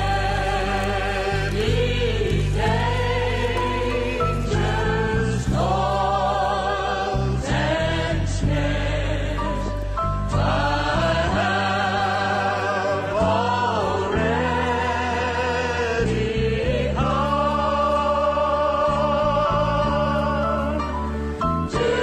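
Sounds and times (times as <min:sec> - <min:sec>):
gospel choir singing chords: 0:00.0 - 0:22.0
sustained bass accompaniment: 0:00.0 - 0:22.0.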